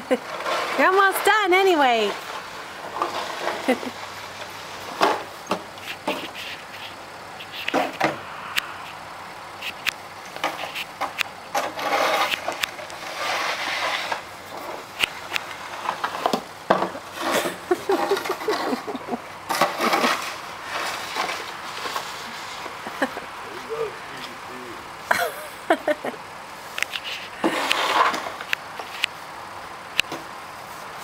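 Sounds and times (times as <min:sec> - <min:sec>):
snow shovel scraping pavement: 0:00.0 - 0:09.0, 0:09.6 - 0:25.9, 0:27.0 - 0:29.0.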